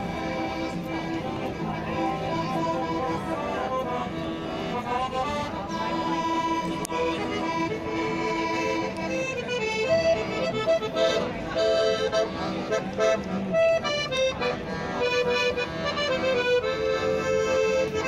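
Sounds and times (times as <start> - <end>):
piano accordion tune: 0.0 - 18.0.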